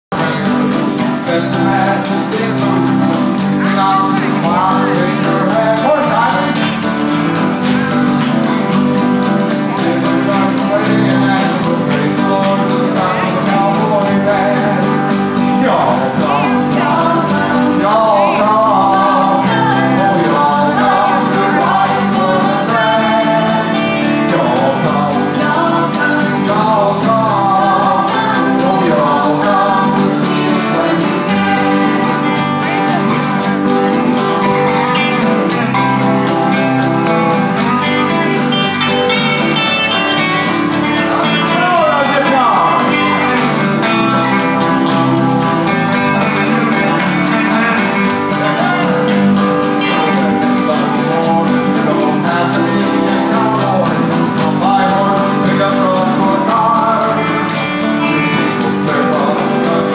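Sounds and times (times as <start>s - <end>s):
country band playing: 0.0s - 59.9s
strummed acoustic guitars: 0.0s - 59.9s
man singing into a microphone: 0.1s - 7.9s, 9.4s - 34.0s, 37.4s - 59.9s
electric bass: 0.1s - 59.9s.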